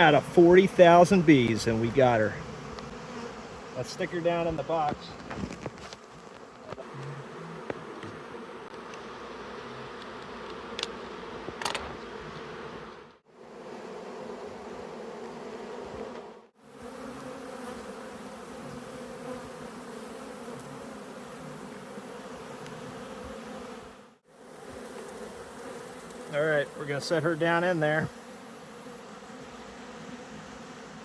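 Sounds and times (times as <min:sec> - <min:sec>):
bee swarm buzzing: 0:00.0 - 0:31.0.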